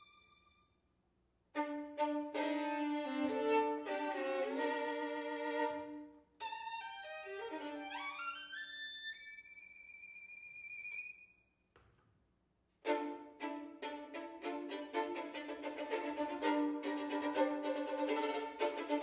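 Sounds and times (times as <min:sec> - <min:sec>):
bowed string accompaniment: 0:00.0 - 0:00.6, 0:01.5 - 0:10.2, 0:12.8 - 0:19.0
violin playing: 0:00.0 - 0:00.7, 0:01.6 - 0:11.2, 0:12.8 - 0:19.0.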